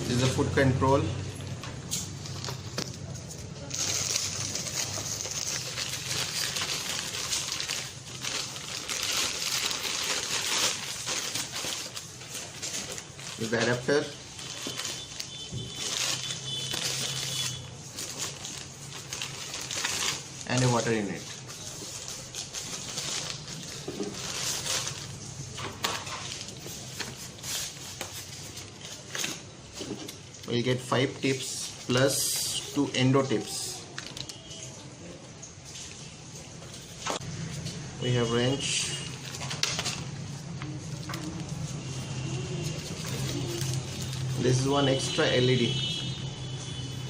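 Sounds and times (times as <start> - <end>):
plastic packaging crinkling: 1.8 - 35.0, 35.6 - 45.2.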